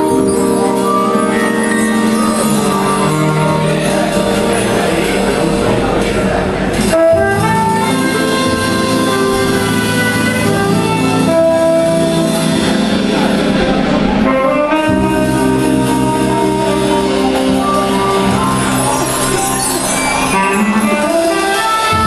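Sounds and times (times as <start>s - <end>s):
low held notes: 0.0s - 21.4s
drum kit: 0.0s - 22.0s
keyboards: 0.0s - 22.0s
saxophone: 0.0s - 22.0s.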